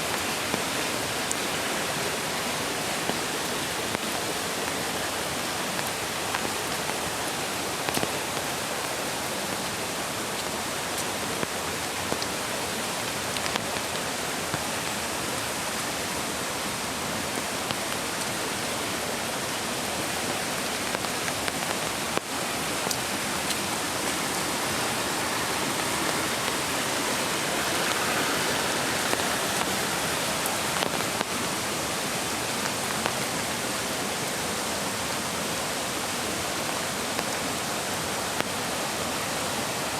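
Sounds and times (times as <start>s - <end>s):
light rain on forest: 0.0s - 39.9s
mountain creek rushing: 0.0s - 39.9s.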